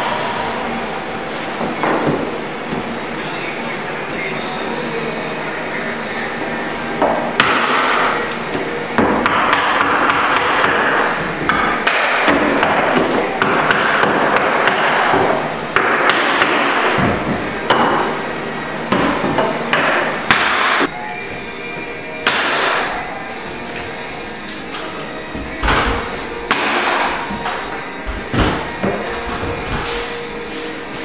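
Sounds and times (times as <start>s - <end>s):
background music: 0.0s - 31.0s.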